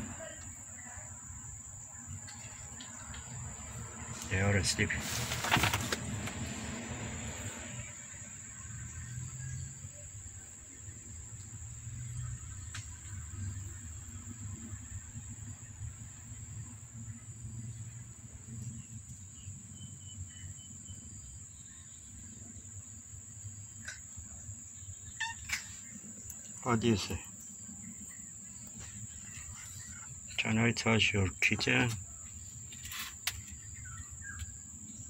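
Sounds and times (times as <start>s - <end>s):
high-pitched insect trill: 6.7s - 35.0s.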